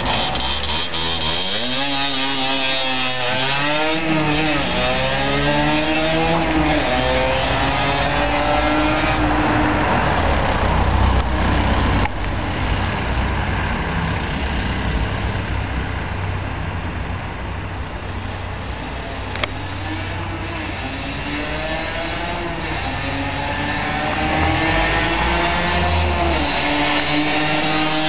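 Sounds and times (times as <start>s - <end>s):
motorcycle accelerating: 0.0s - 28.0s.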